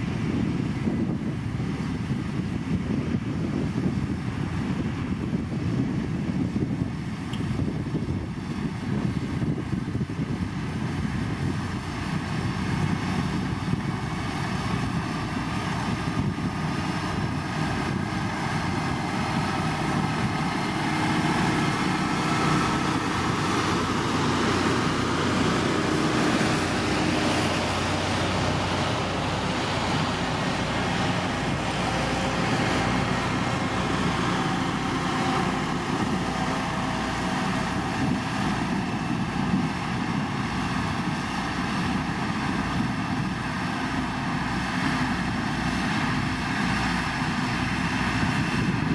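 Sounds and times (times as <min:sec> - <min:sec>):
construction machinery engine drone: 0:00.0 - 0:48.9.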